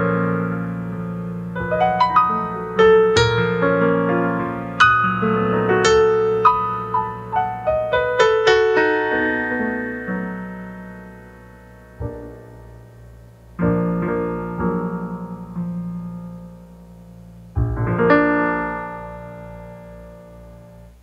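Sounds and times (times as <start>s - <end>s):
solo piano: 0.0s - 21.0s.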